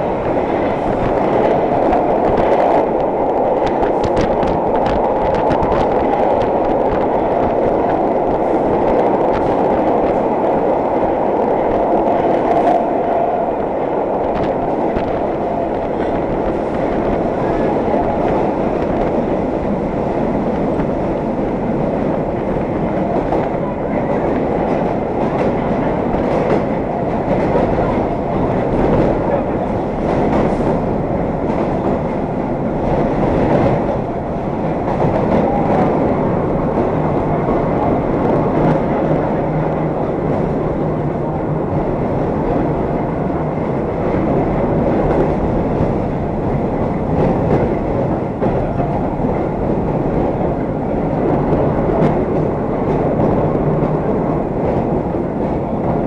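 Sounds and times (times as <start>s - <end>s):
subway car rumble: 0.0s - 56.0s.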